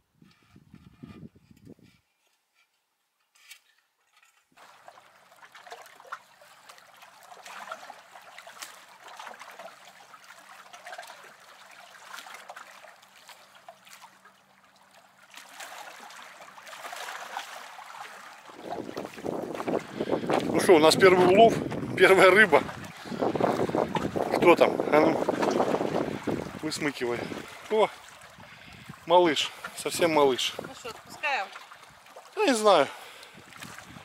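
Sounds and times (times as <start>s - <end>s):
water trickling and lapping: 3.4s - 34.0s.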